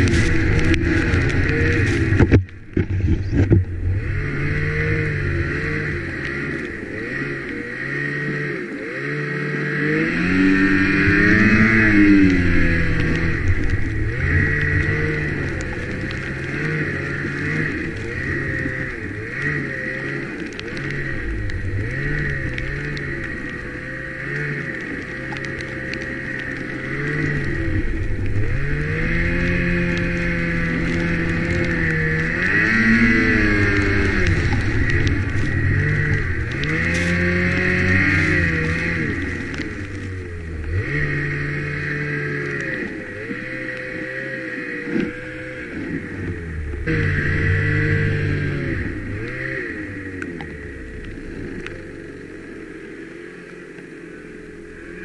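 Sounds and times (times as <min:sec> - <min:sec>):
snowmobile engine revving: 0:00.0 - 0:55.0
steady high whine: 0:00.0 - 0:55.0.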